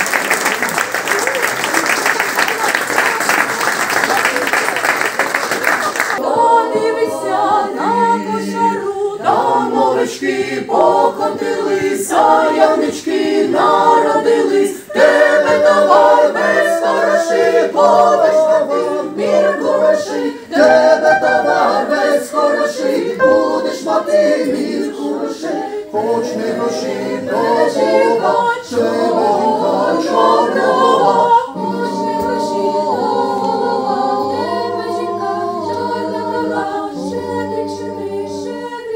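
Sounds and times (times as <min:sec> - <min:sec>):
choir singing a cappella: 0:05.9 - 0:38.9.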